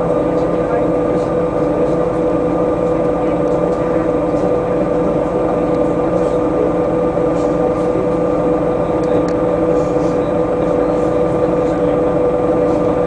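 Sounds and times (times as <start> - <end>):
bus engine running with whine: 0.0 - 13.0.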